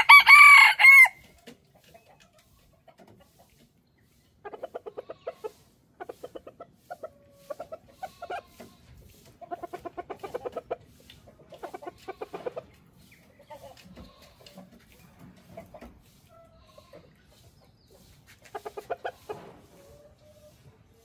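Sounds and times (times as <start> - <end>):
chickens clucking and cackling: 0.0 - 21.0.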